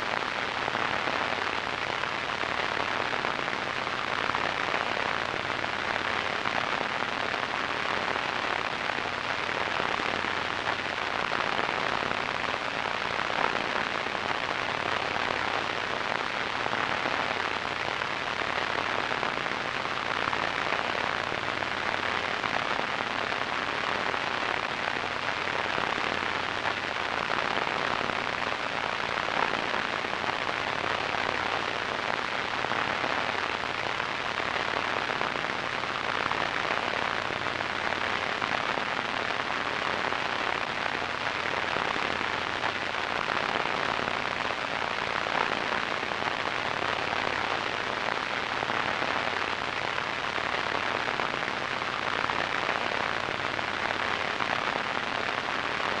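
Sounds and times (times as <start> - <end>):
radio static hiss and crackle: 0.0 - 56.0.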